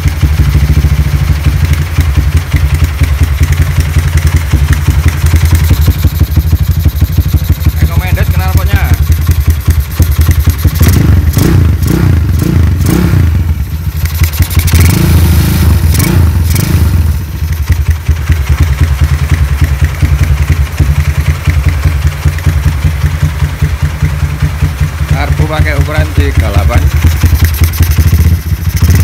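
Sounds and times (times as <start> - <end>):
motorcycle engine revving and idling: 0.0 - 29.0.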